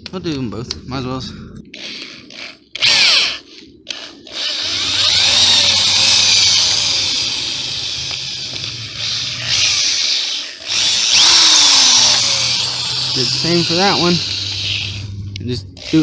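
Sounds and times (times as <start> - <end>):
electric drill whirring: 1.8 - 15.2, 15.8 - 16.0.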